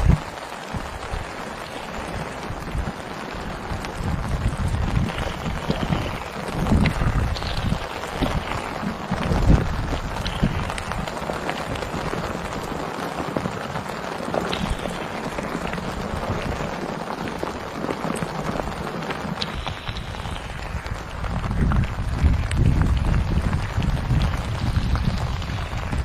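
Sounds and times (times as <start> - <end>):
heavy rain falling: 0.0 - 26.0
raindrops ticking on a surface: 0.0 - 26.0.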